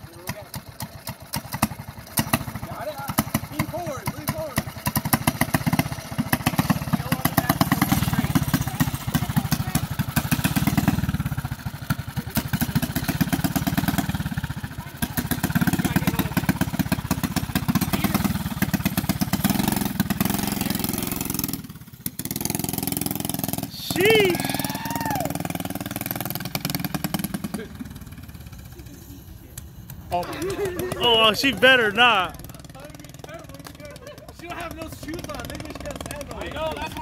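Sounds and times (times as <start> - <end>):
mini bike engine revving: 0.0 - 37.0.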